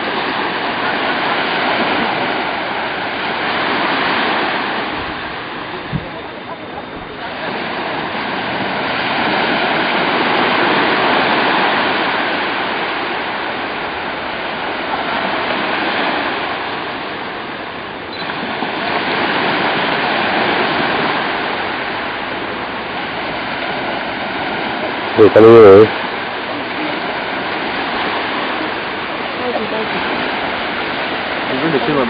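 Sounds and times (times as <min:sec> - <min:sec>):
waves washing onto beach: 0:00.0 - 0:32.0.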